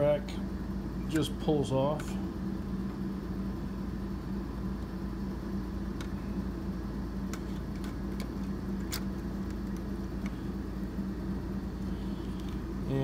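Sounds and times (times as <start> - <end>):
room ventilation hum: 0.0 - 13.0.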